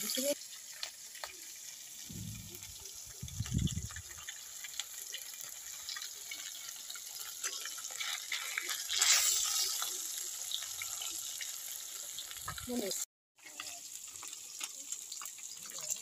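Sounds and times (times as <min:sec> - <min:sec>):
crackles and spits of oil: 0:00.0 - 0:16.0
fish frying in oil: 0:00.0 - 0:16.0.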